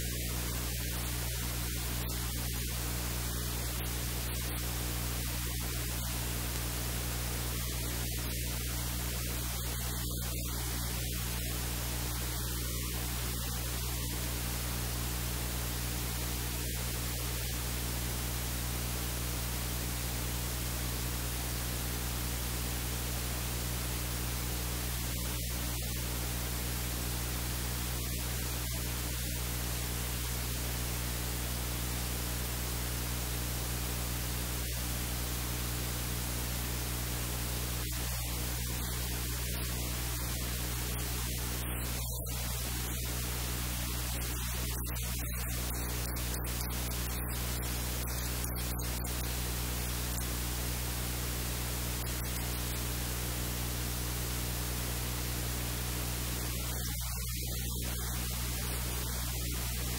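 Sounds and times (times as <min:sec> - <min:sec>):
electrical static hiss: 0:00.0 - 0:59.9.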